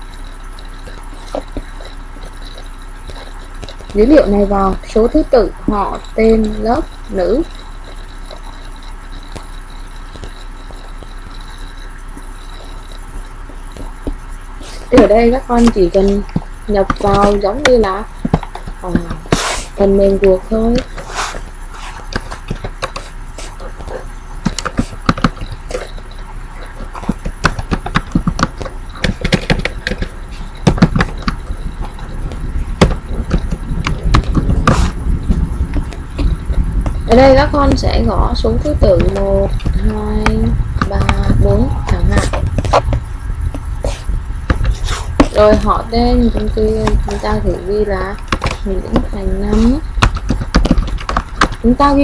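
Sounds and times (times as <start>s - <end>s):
computer keyboard typing: 0.0s - 42.9s
background hiss: 0.0s - 52.0s
low electrical hum: 0.0s - 52.0s.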